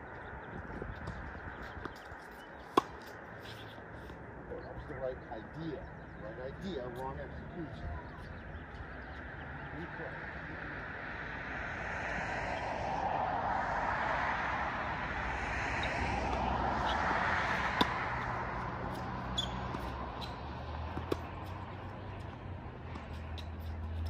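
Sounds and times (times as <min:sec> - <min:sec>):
vehicle passing by: 0:02.7 - 0:24.0.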